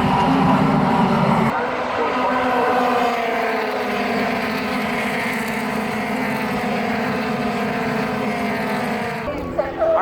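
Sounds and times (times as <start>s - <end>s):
engine drone: 0.0s - 9.8s.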